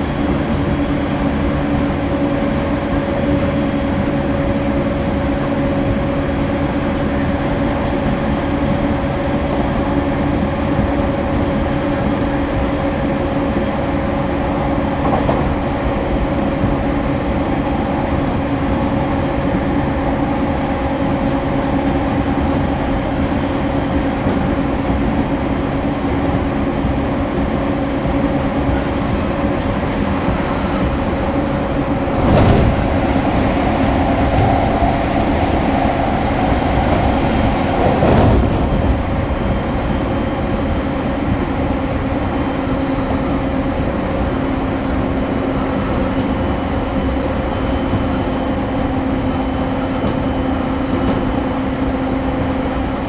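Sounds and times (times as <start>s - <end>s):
constant train hum: 0.0s - 53.0s
train wheels rumbling on rail: 0.0s - 53.0s.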